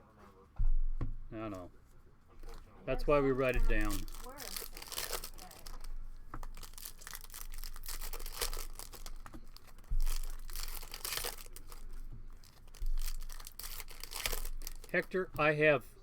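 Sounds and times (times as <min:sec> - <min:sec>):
dull thumps: 0:00.5 - 0:16.0
rustling of packs: 0:01.4 - 0:15.8
foil wrappers tearing and crinkling: 0:02.4 - 0:15.3.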